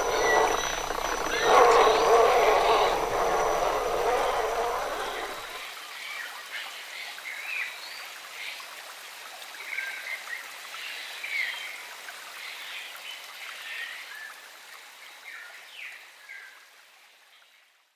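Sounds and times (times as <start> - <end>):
stream running water: 0.0 - 17.7.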